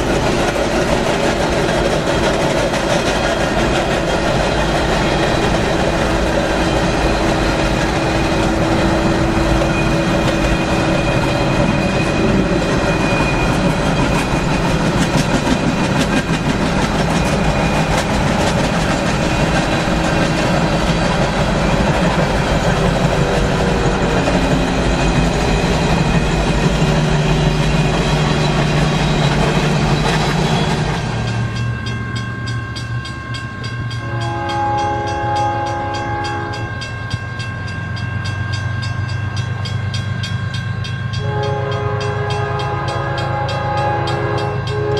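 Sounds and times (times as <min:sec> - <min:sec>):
freight train rolling past: 0:00.0 - 0:44.9.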